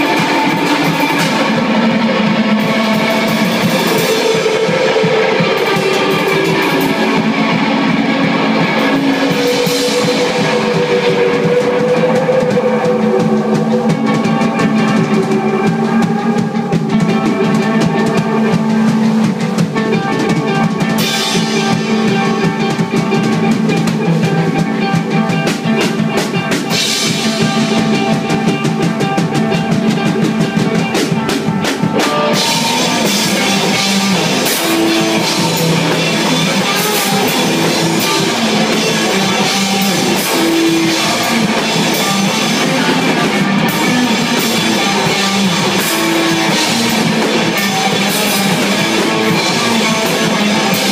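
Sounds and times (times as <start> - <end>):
bass guitar: 0.0 - 50.9
cymbals: 0.0 - 50.9
drum kit: 0.0 - 50.9
electric guitar: 0.0 - 50.9.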